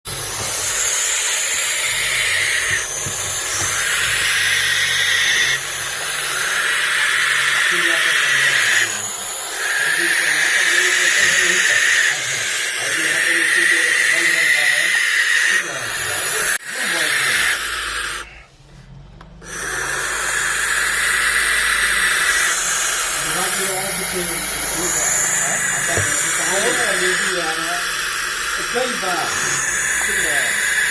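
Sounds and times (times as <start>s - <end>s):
owl hissing: 0.1s - 18.6s, 19.4s - 30.9s.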